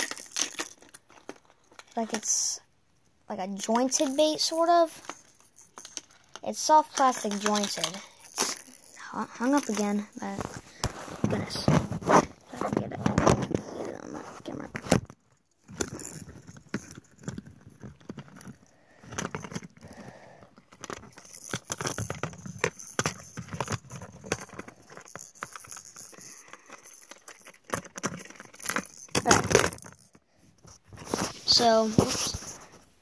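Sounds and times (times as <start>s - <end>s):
plastic and metal clicks and rattles: 0.0s - 2.3s, 3.6s - 13.7s, 14.5s - 32.2s.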